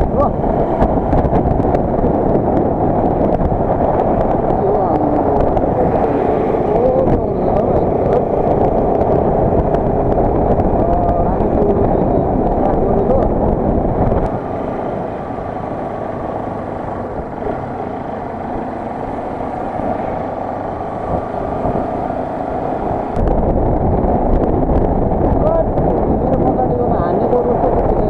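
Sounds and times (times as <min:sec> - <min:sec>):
motorcycle running: 0:00.0 - 0:28.0
wind rushing over microphone: 0:00.0 - 0:28.0.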